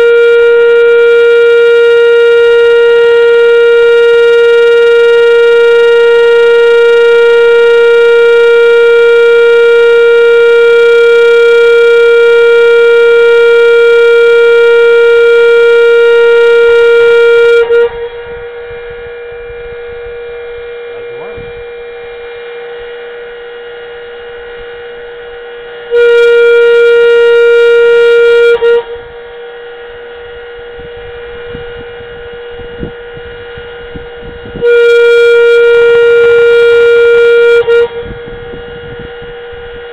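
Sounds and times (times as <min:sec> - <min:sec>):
faint siren hum: 0:00.0 - 0:39.9
siren steady tone: 0:00.0 - 0:39.9.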